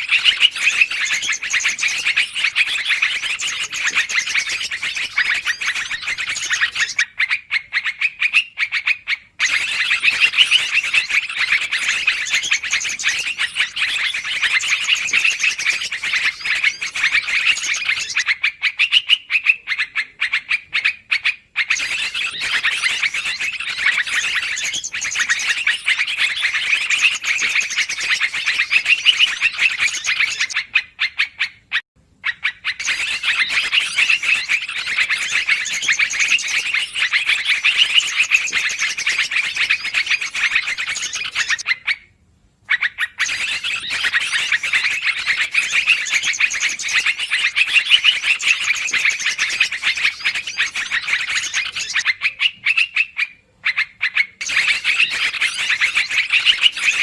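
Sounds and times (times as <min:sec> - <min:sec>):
rapid bird chatter: 0:00.0 - 0:42.0, 0:42.7 - 0:57.0.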